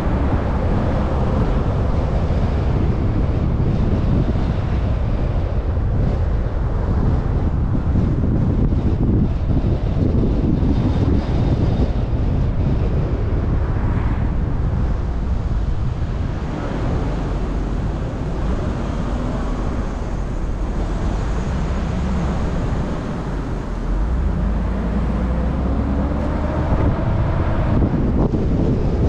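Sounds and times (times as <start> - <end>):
car road and wind noise: 0.0 - 29.0.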